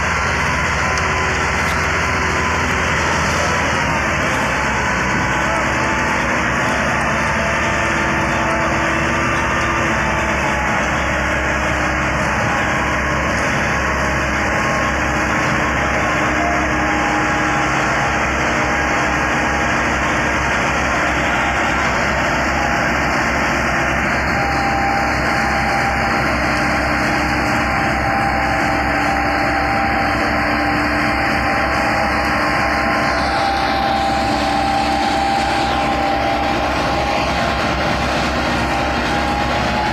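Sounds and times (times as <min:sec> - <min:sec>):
tractor diesel engines under load: 0:00.0 - 0:39.9.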